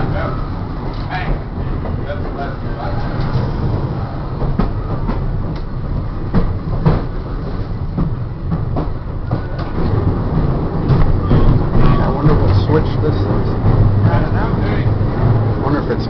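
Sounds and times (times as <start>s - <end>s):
trolley low rumble: 0.0s - 16.0s
wheels knocking on track: 0.0s - 16.0s.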